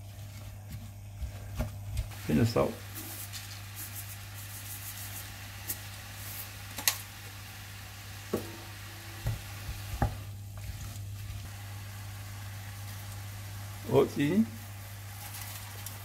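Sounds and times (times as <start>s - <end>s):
steady low hum: 0.0s - 16.0s
vegetables sizzling in frying pan: 2.1s - 16.0s.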